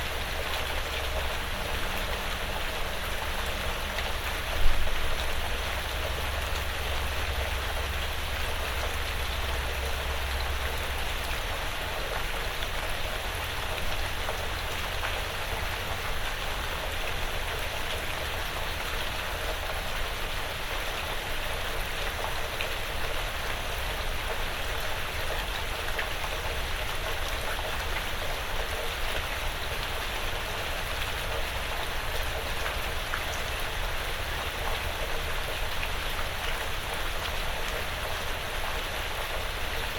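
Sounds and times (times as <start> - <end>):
light rain on a roof: 0.0 - 39.9.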